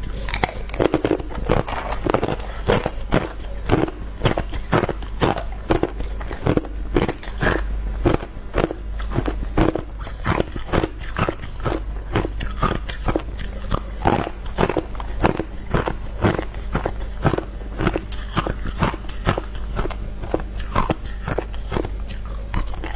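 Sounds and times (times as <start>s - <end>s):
ice crunching between teeth: 0.0s - 22.9s.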